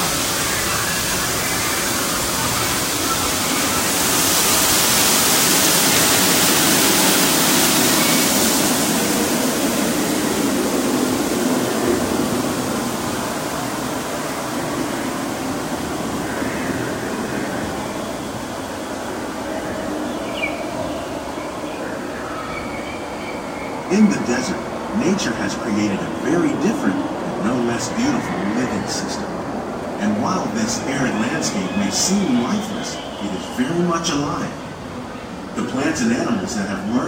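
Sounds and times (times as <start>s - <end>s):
rushing falling water: 0.0s - 37.0s.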